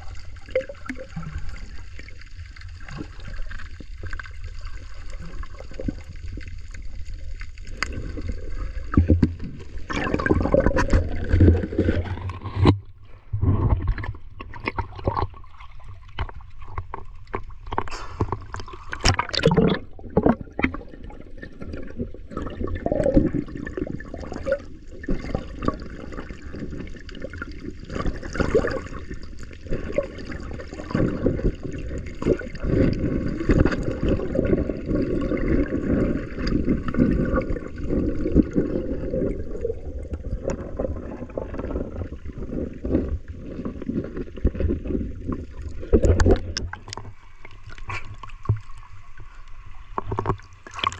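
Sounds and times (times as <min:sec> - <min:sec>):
crackling bubbles: 0:00.0 - 0:50.9
underwater water sloshing: 0:00.0 - 0:50.9
water splashing: 0:00.0 - 0:50.9.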